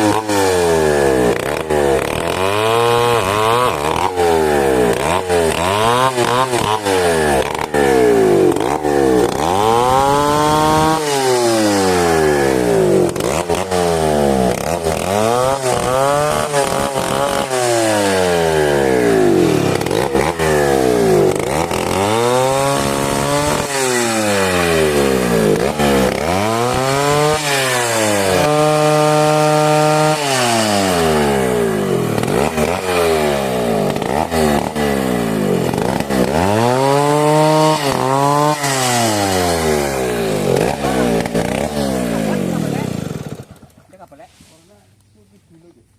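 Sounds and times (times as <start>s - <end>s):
chainsaw cutting wood: 0.0s - 44.7s.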